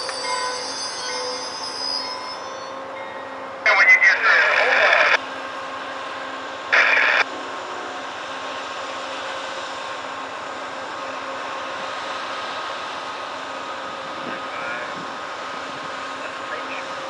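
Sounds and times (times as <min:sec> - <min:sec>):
locomotive engine and fan hum: 0:00.0 - 0:17.0.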